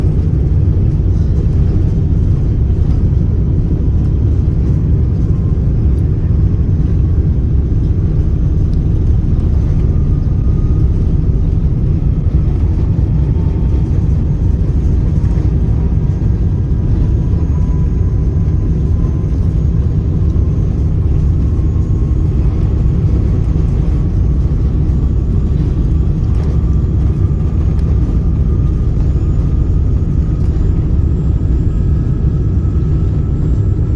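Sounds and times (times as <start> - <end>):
jet engines rumbling at takeoff: 0.0 - 33.9.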